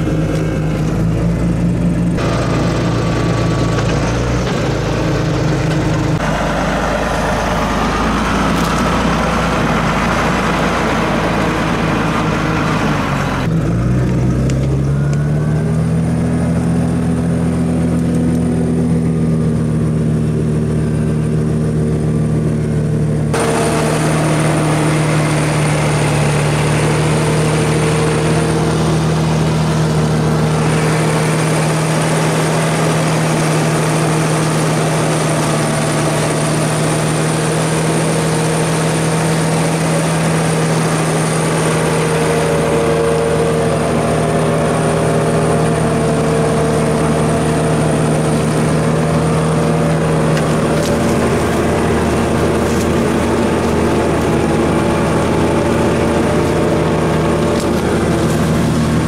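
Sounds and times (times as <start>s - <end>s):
plow pulled through soil: 0.0s - 59.0s
tractor diesel engine running: 0.0s - 59.0s.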